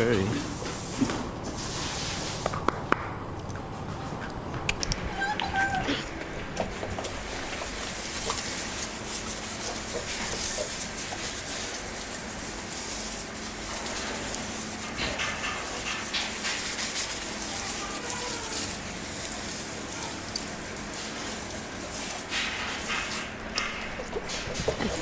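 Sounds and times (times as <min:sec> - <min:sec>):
water hose spraying: 0:04.9 - 0:25.0.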